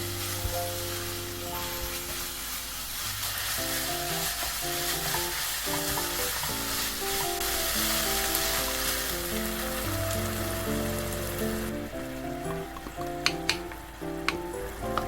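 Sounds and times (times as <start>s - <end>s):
food sizzling in a pan: 0.0s - 15.0s
soft background music: 0.0s - 15.0s.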